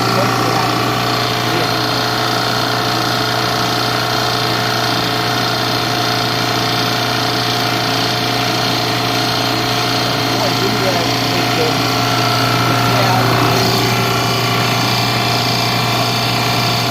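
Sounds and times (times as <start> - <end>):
recovery machine compressor hum: 0.0 - 16.9
steady whining tones: 0.0 - 16.9.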